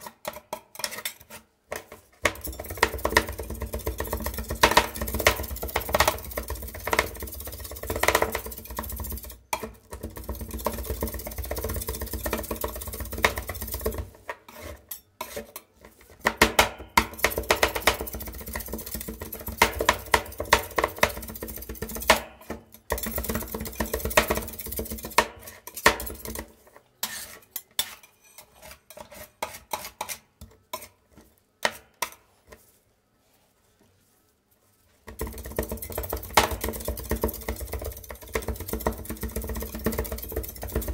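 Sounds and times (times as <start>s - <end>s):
metal spatulas chopping on steel plate: 0.0s - 31.0s, 31.6s - 32.3s, 35.1s - 40.9s.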